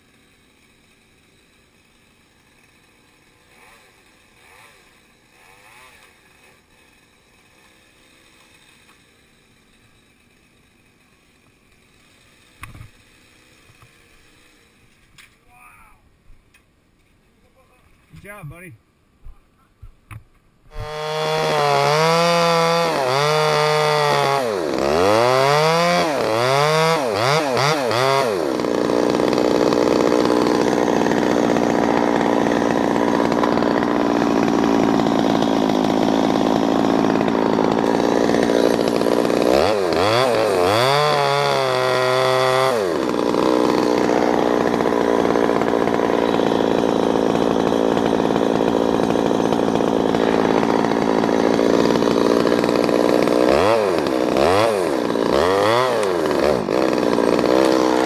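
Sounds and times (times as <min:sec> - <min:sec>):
chainsaw revving and cutting wood: 0:00.0 - 0:14.9, 0:20.7 - 0:58.0.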